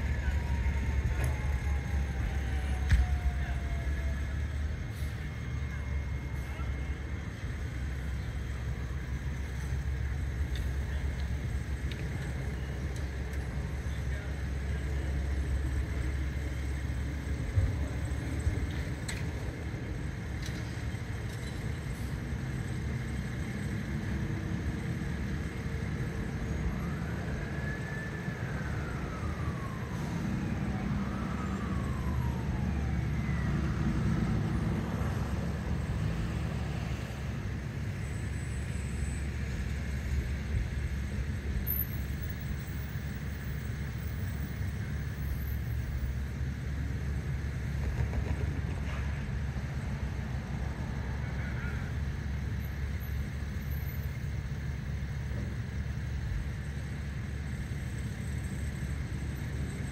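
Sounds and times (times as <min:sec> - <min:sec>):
distant emergency siren: 0:00.0 - 0:59.9
low rumble of vehicle engines: 0:00.0 - 0:59.9.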